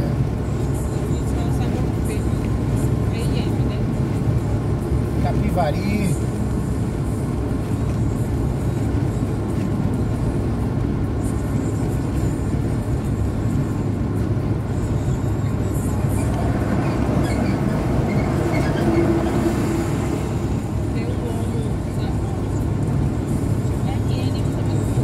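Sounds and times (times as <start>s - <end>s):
car engine hum: 0.0s - 25.0s
tyre and road noise: 0.0s - 25.0s.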